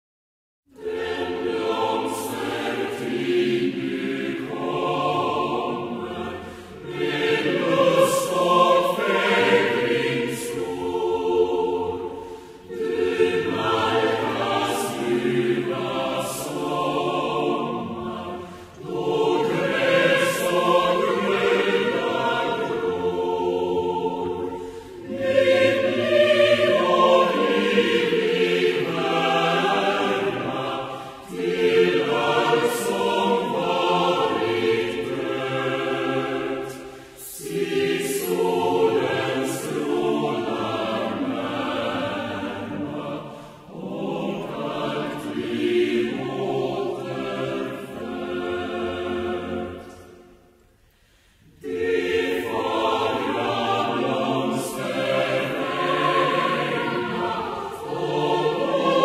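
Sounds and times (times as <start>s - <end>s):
choir singing: 0.7s - 59.0s.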